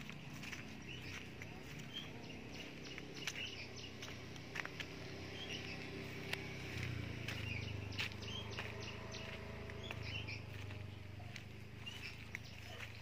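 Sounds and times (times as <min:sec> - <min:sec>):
footsteps on grass: 0:00.0 - 0:13.0.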